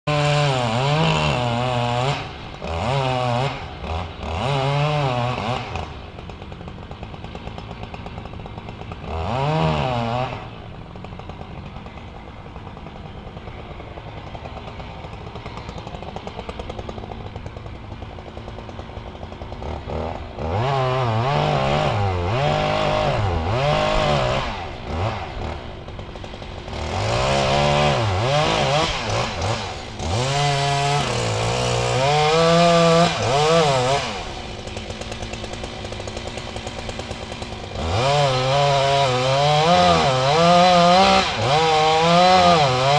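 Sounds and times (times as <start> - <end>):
chainsaw cutting wood: 0.1 - 42.9.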